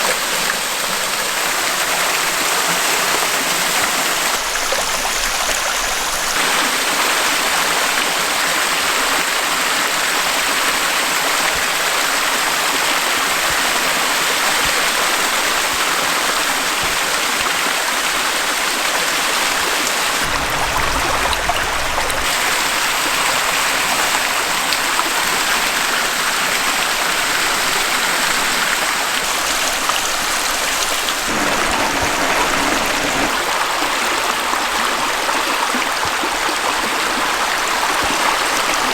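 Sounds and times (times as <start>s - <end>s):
waterfall and brook rushing: 0.0s - 38.9s.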